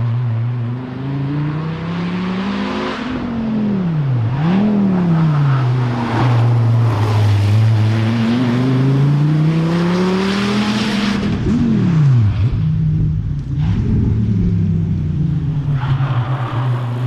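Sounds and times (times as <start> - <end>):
car engine accelerating hard: 0.6 - 17.0.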